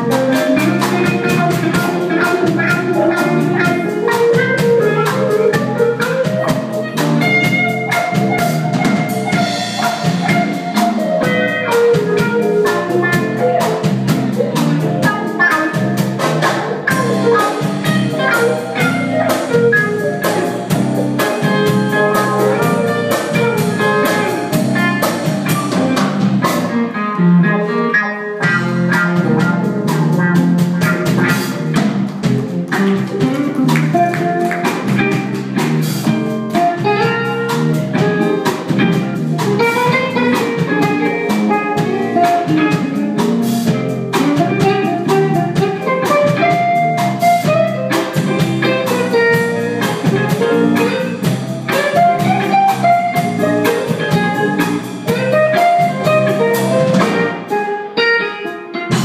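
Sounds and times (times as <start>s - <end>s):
live blues band playing: 0.0s - 59.0s.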